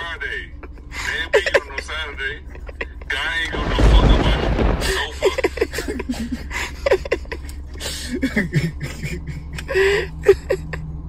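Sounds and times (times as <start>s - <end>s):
voices talking and laughing: 0.0s - 10.8s
low hum: 0.0s - 11.0s.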